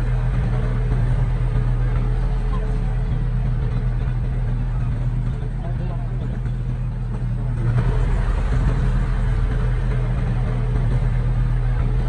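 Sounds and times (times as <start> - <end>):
construction machine engine humming: 0.0 - 12.0.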